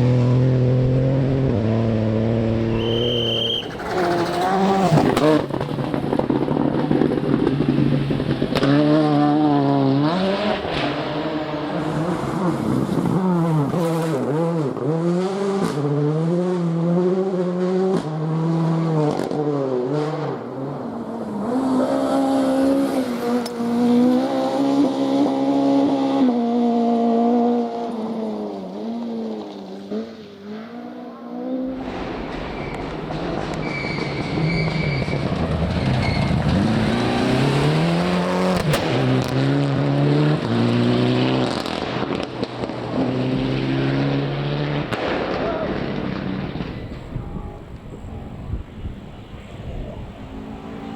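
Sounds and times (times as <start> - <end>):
rally car engine revving: 0.0 - 50.9.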